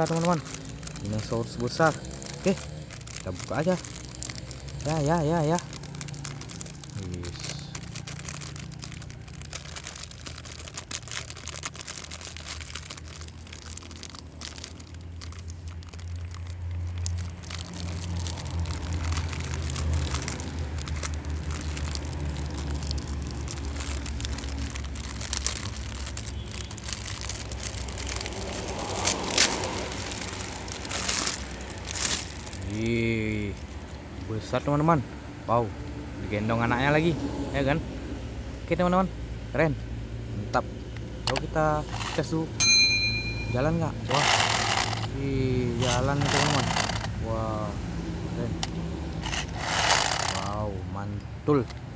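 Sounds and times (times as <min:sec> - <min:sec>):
plastic packaging crinkling: 0:00.0 - 0:34.3, 0:41.3 - 0:47.2, 0:48.7 - 0:50.6.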